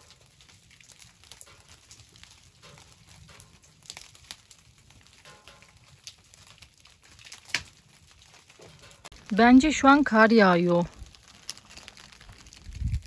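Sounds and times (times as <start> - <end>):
hail ticking on tent fabric: 0.0 - 13.0.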